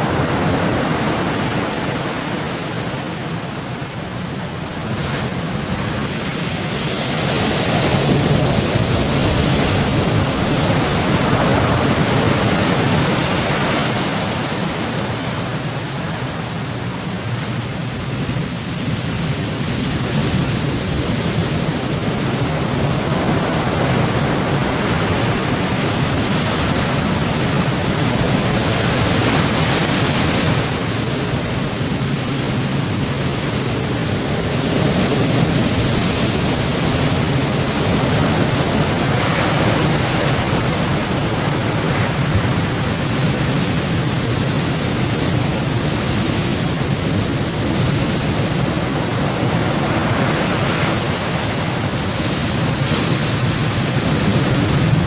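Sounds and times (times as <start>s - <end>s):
waves rushing: 0.0s - 55.0s.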